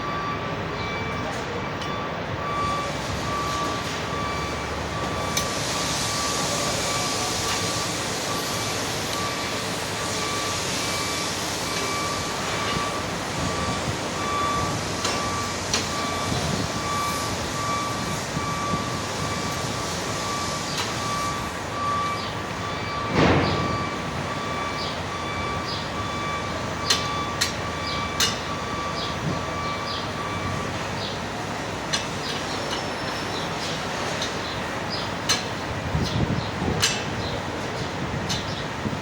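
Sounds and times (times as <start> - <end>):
reversing alarm beeping: 0.0 - 39.0
steady background noise: 0.0 - 39.0.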